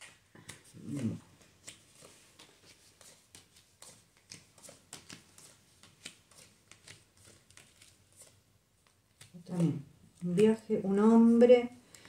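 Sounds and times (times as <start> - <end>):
cards clicking and rustling: 0.0 - 10.5.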